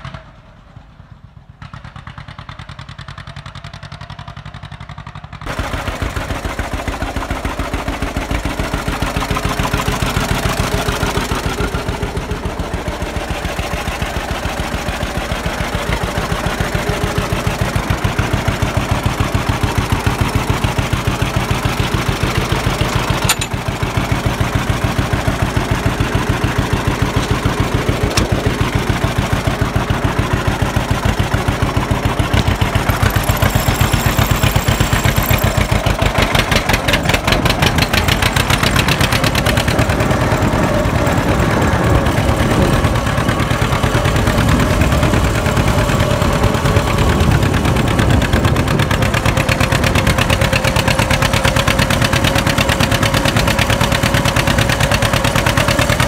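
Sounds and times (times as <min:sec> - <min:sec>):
tractor engine popping: 0:00.0 - 0:56.0.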